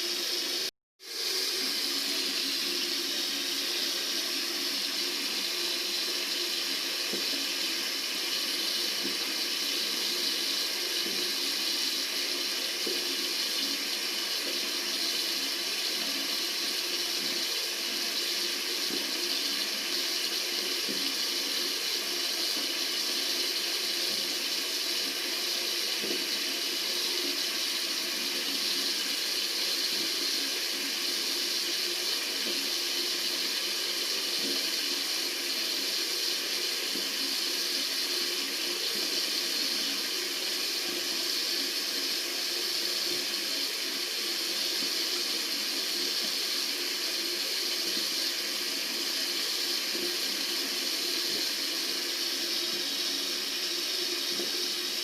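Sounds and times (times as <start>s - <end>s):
tap water running from faucet: 0.0s - 55.0s.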